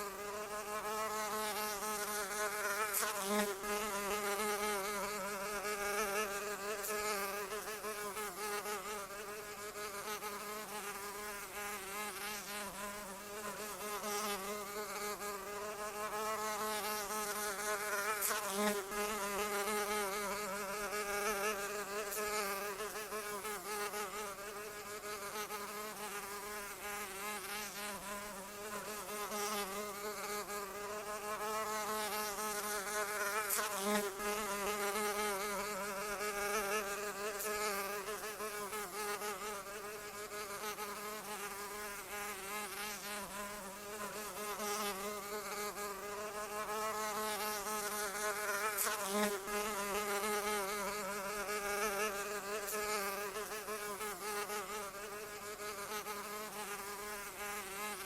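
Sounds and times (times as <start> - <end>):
flying insect buzzing: 0.0 - 58.0.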